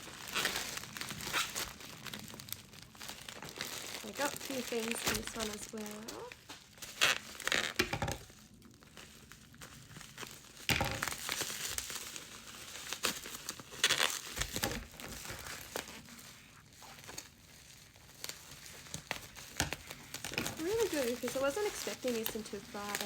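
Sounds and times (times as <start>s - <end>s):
packaging crinkling and rustling: 0.0s - 23.0s.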